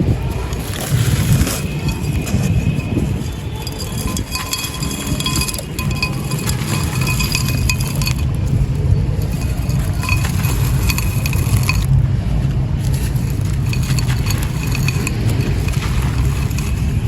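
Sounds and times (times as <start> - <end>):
steady low rumble: 0.0 - 17.0
clay pot crumbling: 0.2 - 11.9, 12.8 - 17.0.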